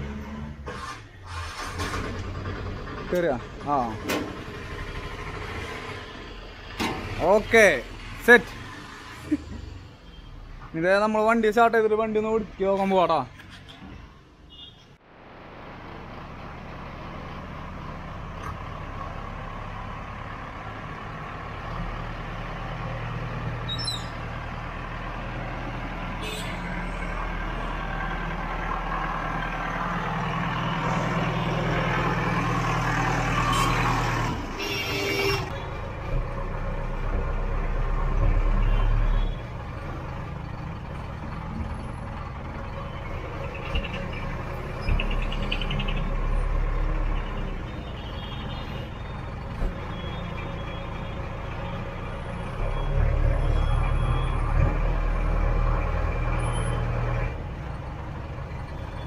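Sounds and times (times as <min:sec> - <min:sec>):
diesel engine running: 0:00.0 - 0:08.4, 0:15.2 - 0:59.0.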